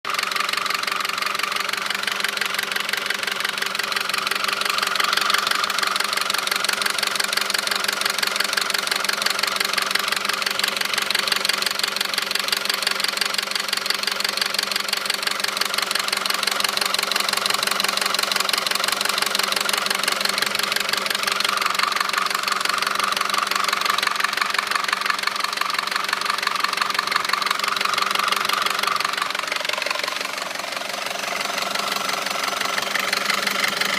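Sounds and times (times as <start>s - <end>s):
car engine knocking: 0.0s - 33.9s.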